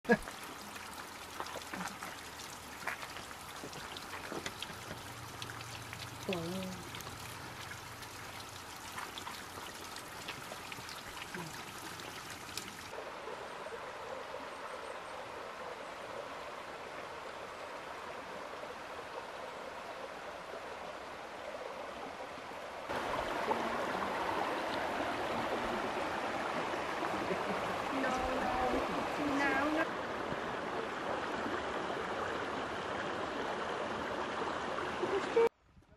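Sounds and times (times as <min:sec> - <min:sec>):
stream running over stones: 0:00.0 - 0:35.5
water trickling and dripping: 0:00.0 - 0:35.5.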